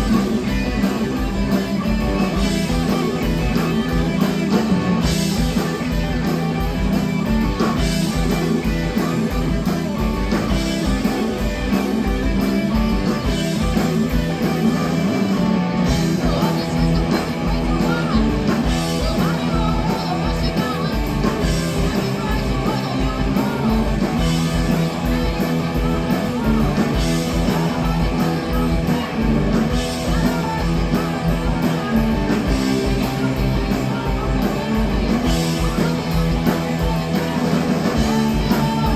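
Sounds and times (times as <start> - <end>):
fast drum beat: 0.0 - 38.9
live rock band playing: 0.0 - 38.9.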